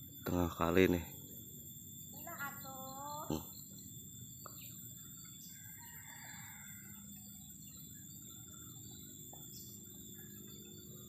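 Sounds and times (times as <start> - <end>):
distant bird call: 0.0 - 11.0
faint outdoor background noise: 0.0 - 11.0.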